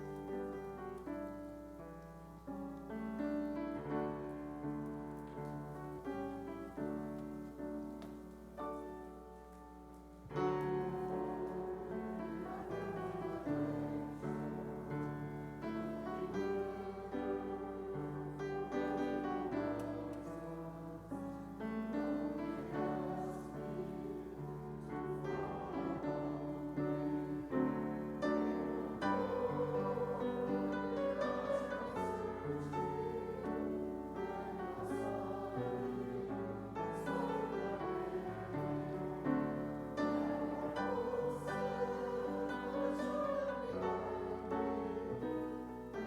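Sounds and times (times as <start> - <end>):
piano playing slow chords: 0.0 - 46.0.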